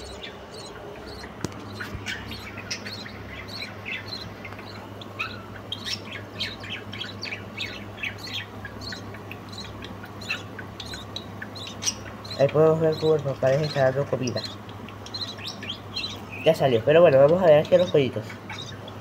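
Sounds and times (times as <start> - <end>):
chicks begging chirps: 0.0 - 19.0
steady low hum: 0.0 - 19.0.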